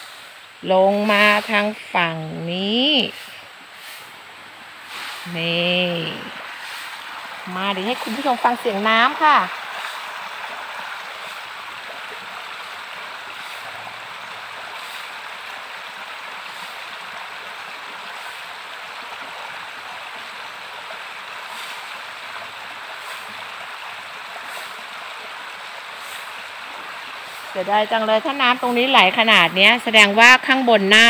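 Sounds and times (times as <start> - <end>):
stream rushing over stones: 0.0 - 31.0.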